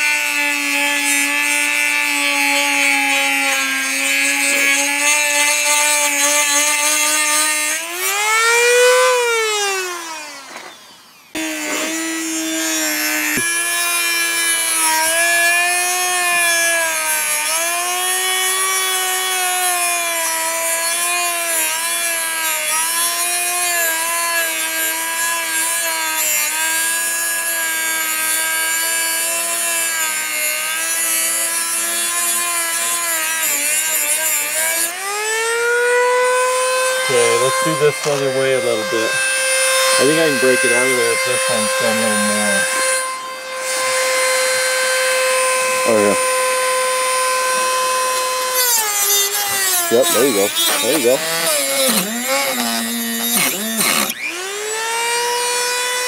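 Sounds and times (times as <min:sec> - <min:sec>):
rotary tool grinding metal: 0:00.0 - 0:56.0.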